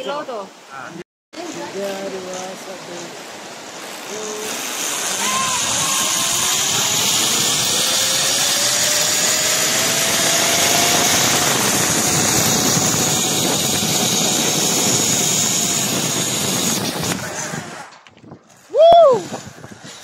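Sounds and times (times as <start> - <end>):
zipline pulleys whining on cable: 1.4 - 20.0
wind rushing: 3.3 - 20.0.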